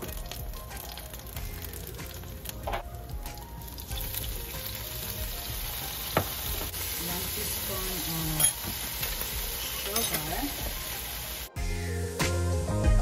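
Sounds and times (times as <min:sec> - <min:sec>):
garlic sizzling in hot oil: 0:00.0 - 0:12.4.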